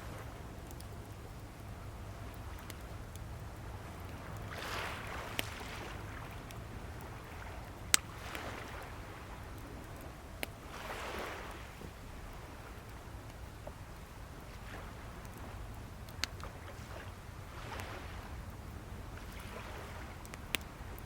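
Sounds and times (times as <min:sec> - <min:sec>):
bonfire crackling and popping: 0:00.0 - 0:21.0
waves washing ashore: 0:00.0 - 0:21.0.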